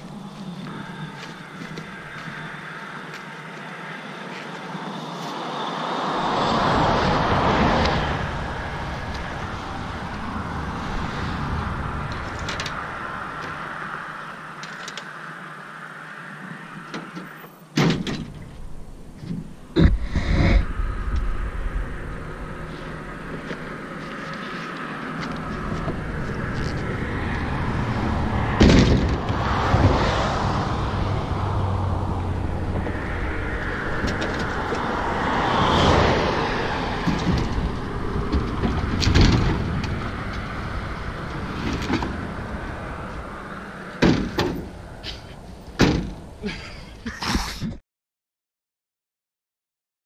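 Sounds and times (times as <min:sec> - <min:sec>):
highway traffic passing: 0:00.0 - 0:47.2.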